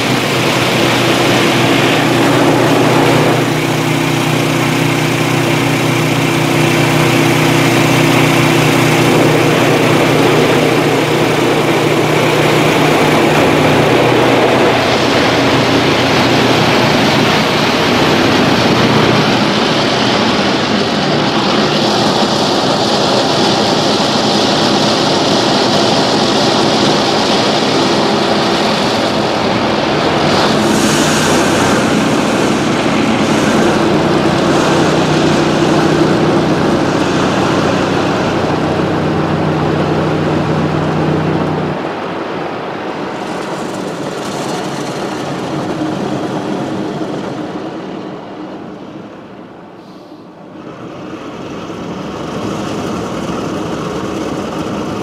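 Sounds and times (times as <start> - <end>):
mechanical hum: 0.0 - 55.0.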